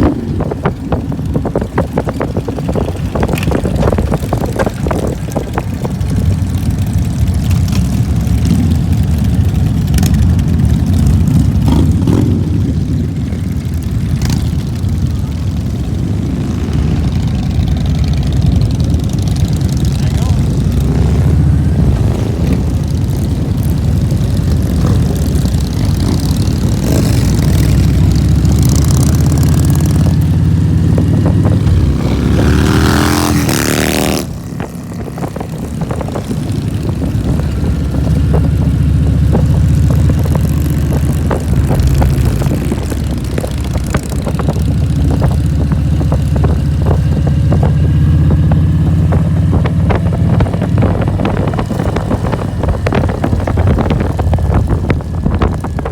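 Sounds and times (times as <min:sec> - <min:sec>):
motorcycle engine revving: 0:00.0 - 0:55.9
motorcycle engine running: 0:00.0 - 0:55.9.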